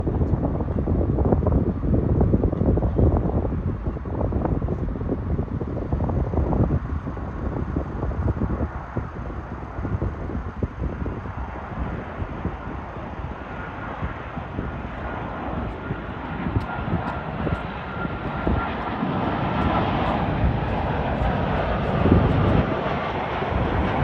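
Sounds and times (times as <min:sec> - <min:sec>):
high jet whine: 0:00.0 - 0:24.0
jet engine rumble: 0:00.0 - 0:24.0.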